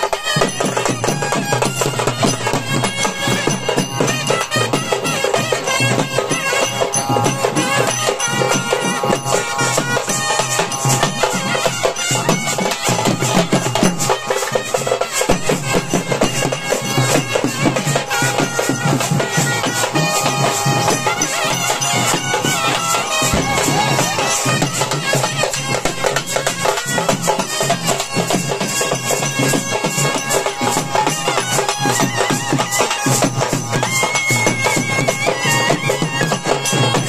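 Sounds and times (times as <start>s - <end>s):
drums beaten fast: 0.0s - 37.0s
wind instrument holding notes: 0.0s - 37.0s.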